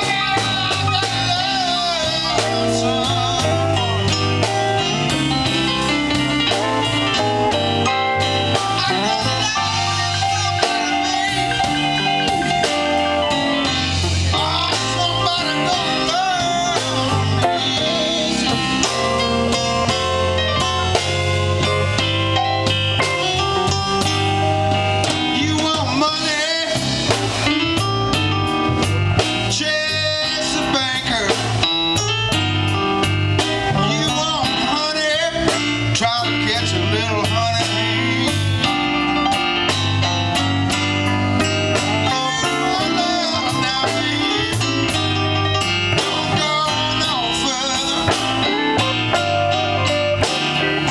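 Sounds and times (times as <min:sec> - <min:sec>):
live blues band playing: 0:00.0 - 0:50.9.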